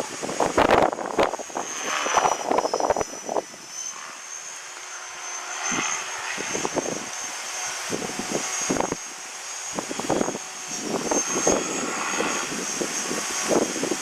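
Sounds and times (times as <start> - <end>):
wind buffeting microphone: 0.0 - 3.8, 5.6 - 14.0
rc helicopter whine: 0.0 - 14.0.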